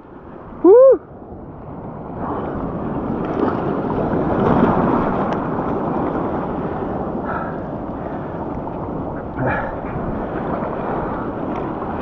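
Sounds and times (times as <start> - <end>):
surf washing and splashing: 0.0 - 12.0
wind on the microphone: 0.0 - 12.0.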